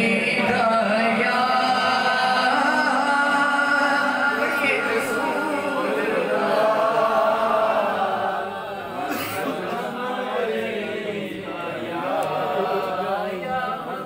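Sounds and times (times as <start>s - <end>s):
men chanting unaccompanied: 0.0s - 14.0s.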